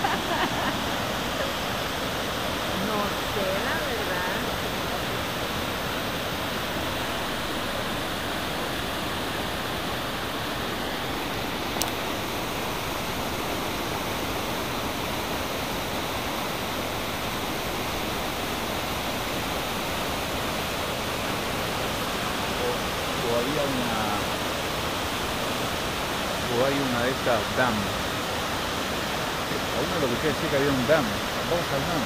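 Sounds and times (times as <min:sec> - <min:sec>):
whitewater rushing over rock: 0:00.0 - 0:32.0.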